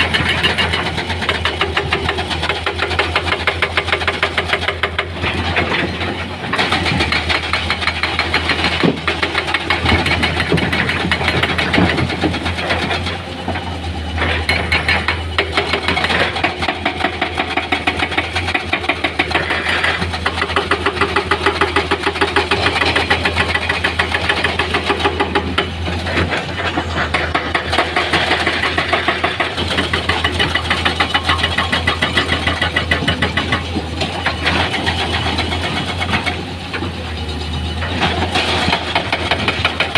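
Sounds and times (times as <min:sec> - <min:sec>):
diesel engine pulsing: 0:00.0 - 0:39.9.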